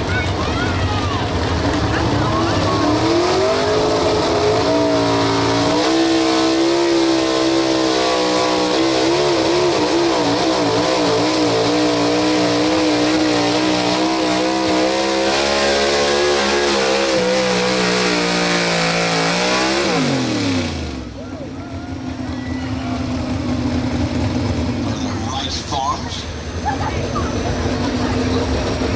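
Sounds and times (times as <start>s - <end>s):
truck engine at full throttle: 0.0s - 28.9s.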